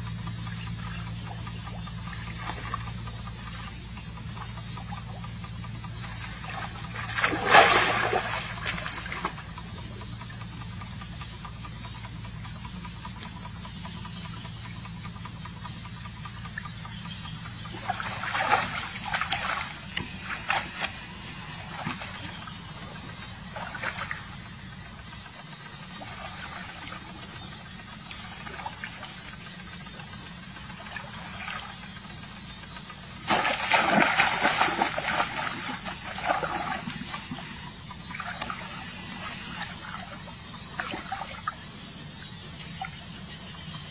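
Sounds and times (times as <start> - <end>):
muddy water splashing: 0.0 - 14.6, 15.3 - 43.9
steady low hum: 0.0 - 43.9.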